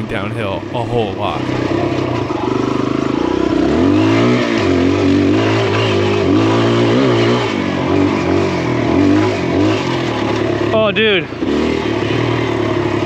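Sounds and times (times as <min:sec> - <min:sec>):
dirt bike engine revving: 0:01.4 - 0:13.0.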